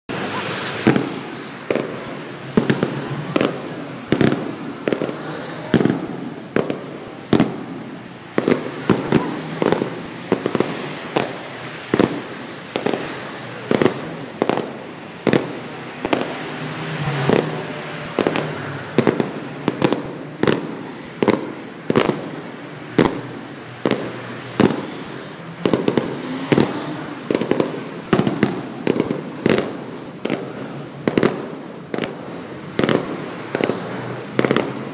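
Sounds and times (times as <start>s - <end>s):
fireworks bursting with sharp bangs: 0.1s - 34.9s.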